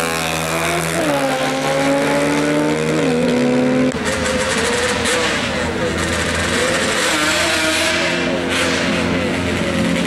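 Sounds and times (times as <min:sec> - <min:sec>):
motorcycles at full throttle: 0:00.0 - 0:10.0.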